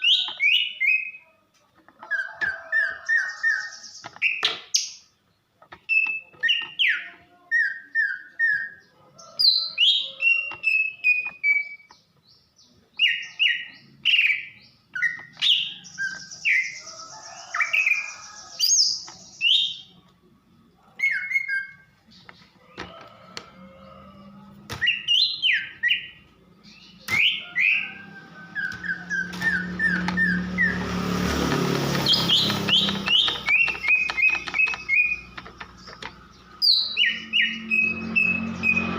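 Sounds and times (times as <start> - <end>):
bird chirps: 0.0 - 1.3, 2.1 - 20.0, 24.7 - 31.0, 31.9 - 38.9.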